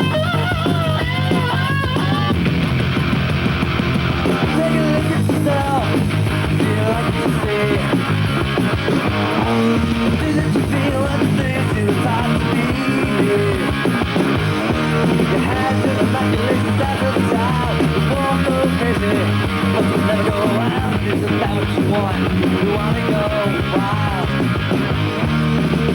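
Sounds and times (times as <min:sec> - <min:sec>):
punk rock music with guitars: 0:00.0 - 0:25.9.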